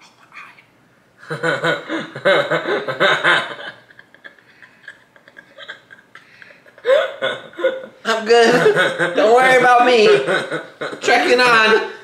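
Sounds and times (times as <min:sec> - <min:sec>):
people laughing heartily: 0:01.3 - 0:11.6.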